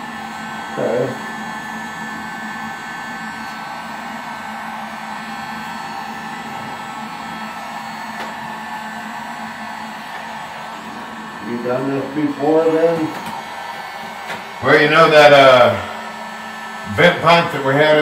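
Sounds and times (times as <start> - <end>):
heat gun fan humming and whining: 0.0 - 18.0.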